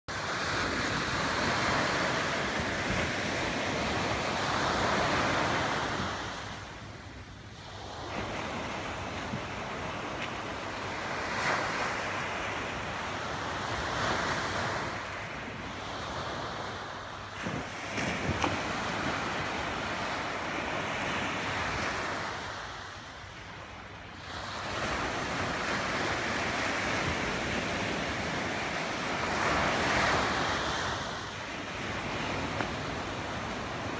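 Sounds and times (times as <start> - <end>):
small waves breaking on sand: 0.1 - 33.9.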